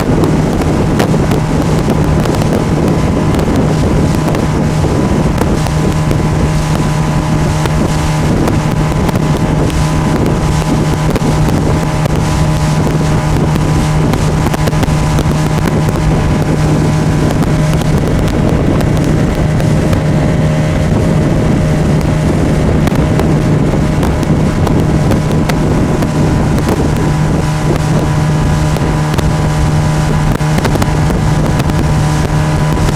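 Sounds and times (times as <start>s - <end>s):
outboard motor droning: 0.0s - 32.9s.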